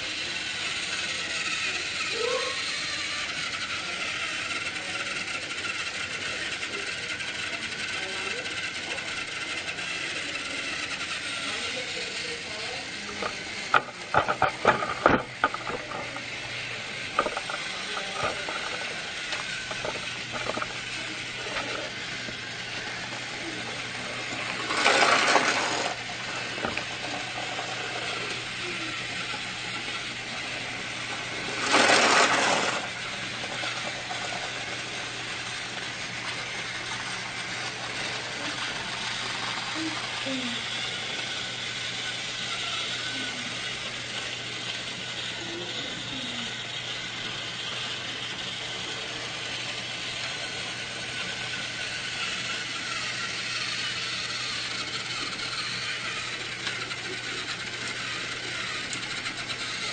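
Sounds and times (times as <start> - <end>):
mechanical whirr: 0.0 - 59.9
sharp clicks and rattles: 0.2 - 59.9.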